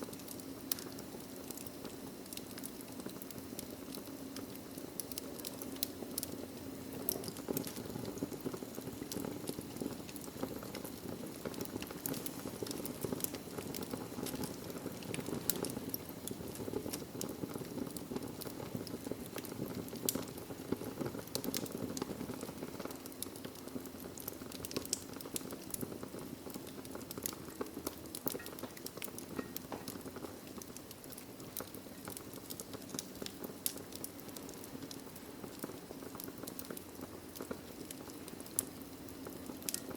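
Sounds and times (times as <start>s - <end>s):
fire flames roaring: 0.0s - 39.9s
wood crackling and popping: 0.0s - 39.9s.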